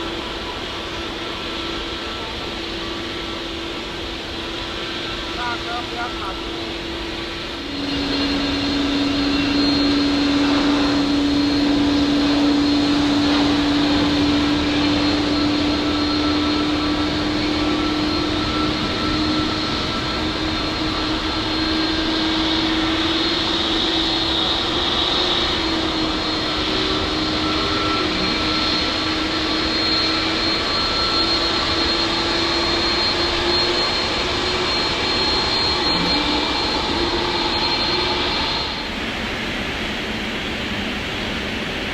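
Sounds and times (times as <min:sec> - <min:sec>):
high engine whine: 0:00.0 - 0:41.9
jet engines taxiing: 0:00.0 - 0:41.9.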